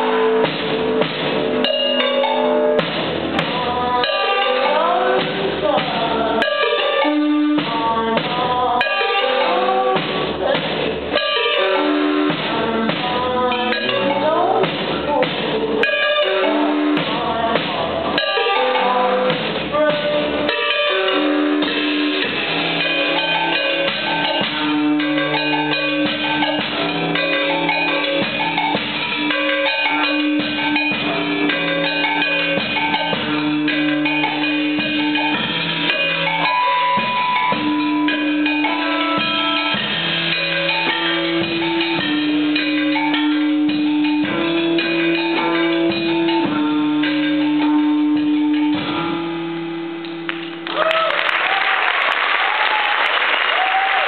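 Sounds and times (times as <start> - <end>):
drum kit: 0.0 - 54.0.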